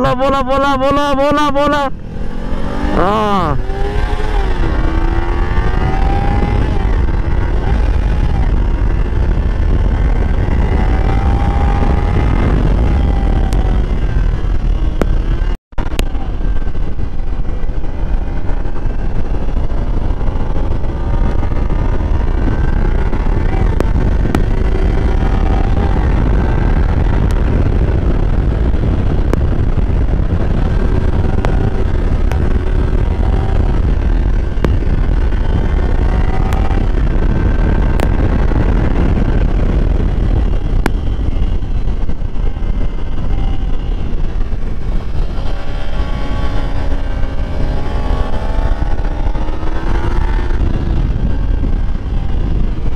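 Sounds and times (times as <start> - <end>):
motorcycle engine revving: 0.0 - 52.9
wind rumble on microphone: 0.0 - 52.9.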